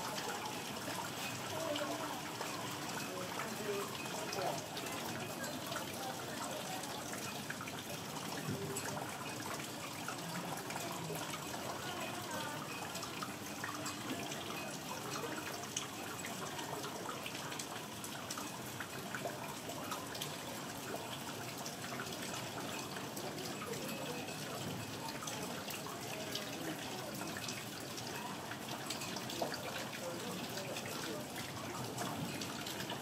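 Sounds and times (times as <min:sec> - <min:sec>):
rain falling and dripping: 0:00.0 - 0:33.0.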